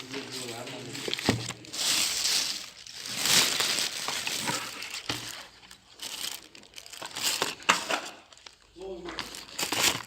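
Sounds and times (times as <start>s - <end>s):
crinkling handling noise: 0.0s - 10.0s.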